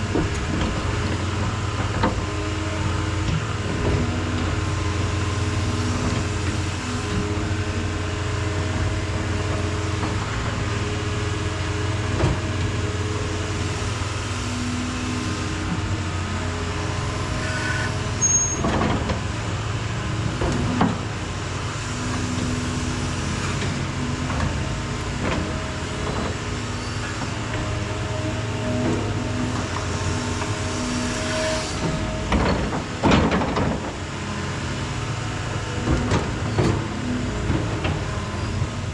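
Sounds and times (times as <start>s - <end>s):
heavy equipment engine running: 0.0s - 38.9s.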